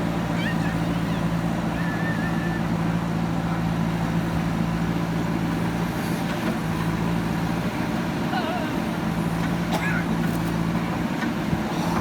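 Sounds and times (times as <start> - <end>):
heavy machine engine droning: 0.0 - 12.0.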